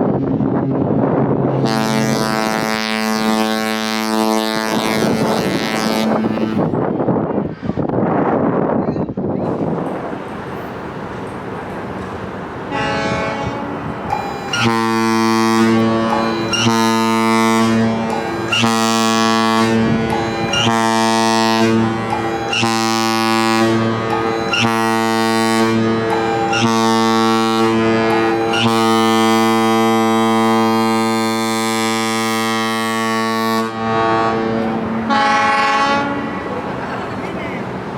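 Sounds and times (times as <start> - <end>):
deep ship horn blasts: 0.0 - 7.1, 9.4 - 37.9.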